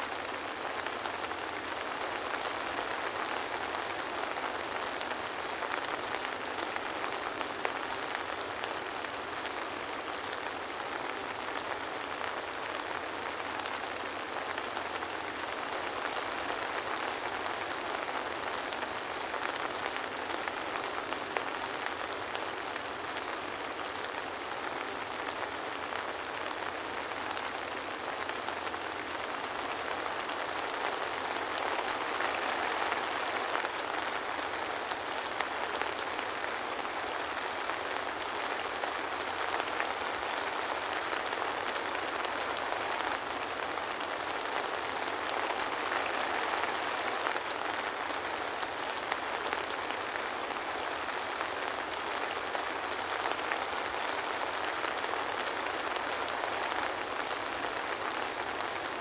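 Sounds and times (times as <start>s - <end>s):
soft rain hiss: 0.0s - 59.0s.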